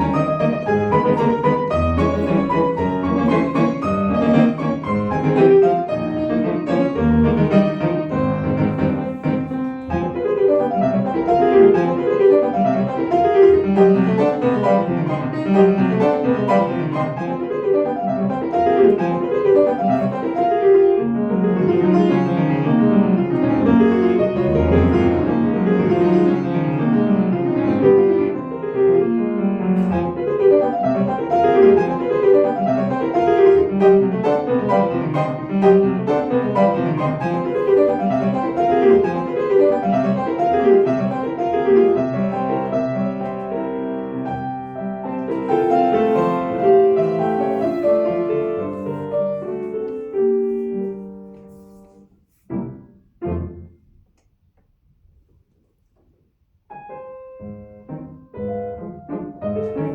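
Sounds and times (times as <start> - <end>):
solo classical piano: 0.0 - 59.9.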